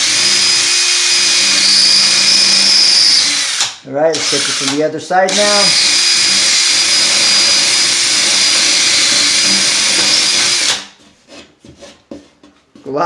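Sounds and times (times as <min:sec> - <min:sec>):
power drill boring through drywall: 0:00.0 - 0:11.0.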